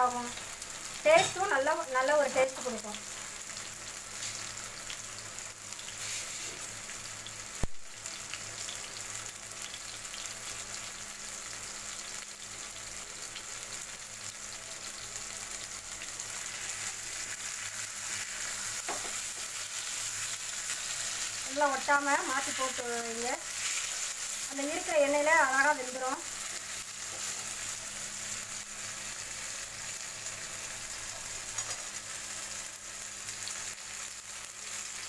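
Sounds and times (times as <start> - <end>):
fish sizzling in a pan: 0.0 - 35.0
spatula working in a pan: 0.1 - 7.7, 14.3 - 35.0.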